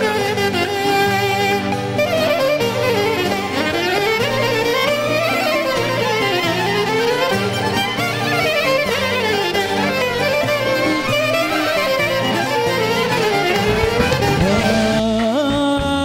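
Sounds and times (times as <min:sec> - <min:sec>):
clarinet melody: 0:00.0 - 0:15.2
folk band playing dance tune: 0:00.0 - 0:16.0.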